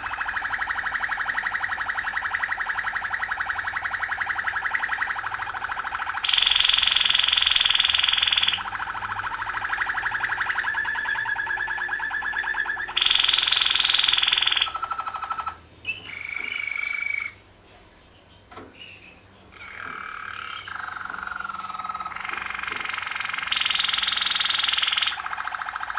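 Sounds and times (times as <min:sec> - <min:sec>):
canary singing trills: 0:00.0 - 0:17.4, 0:18.0 - 0:25.9.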